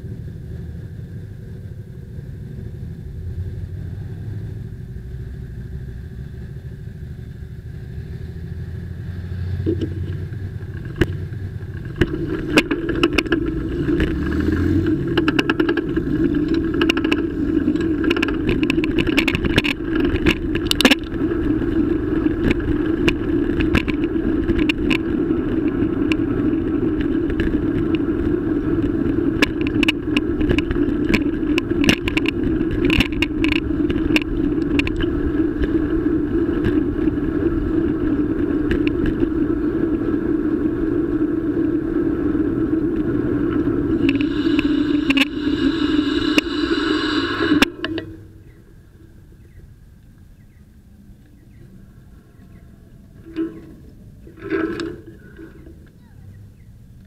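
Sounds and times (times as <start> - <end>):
car engine pulling away: 0.0 - 49.7
steady ride hum: 0.0 - 57.0.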